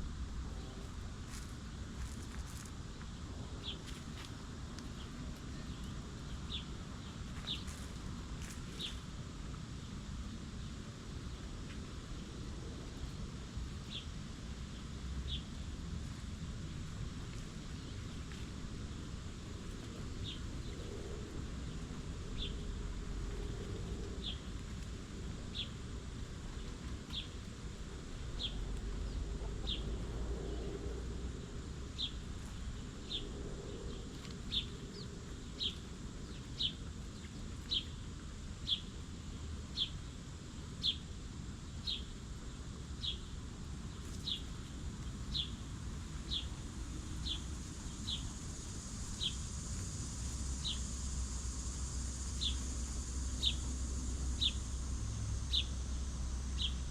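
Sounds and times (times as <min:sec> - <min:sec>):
low background rumble: 0:00.0 - 0:56.9.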